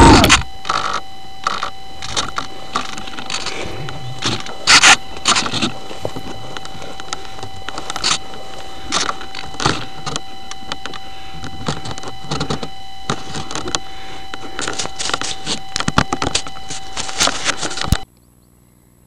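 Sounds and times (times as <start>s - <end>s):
steady high whine: 0.0s - 18.1s.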